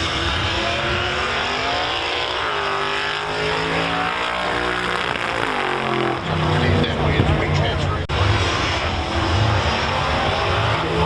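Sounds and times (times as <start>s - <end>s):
race cars at full throttle: 0.0s - 11.0s.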